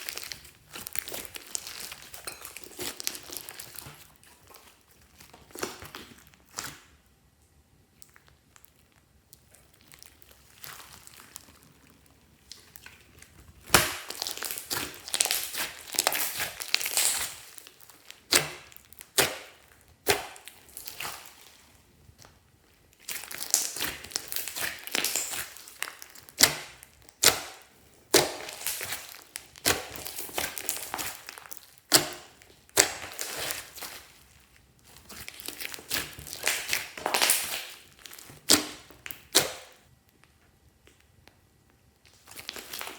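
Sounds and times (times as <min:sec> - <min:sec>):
slime crackling and popping: 0:00.0 - 0:07.0, 0:07.9 - 0:41.2, 0:42.0 - 0:42.9.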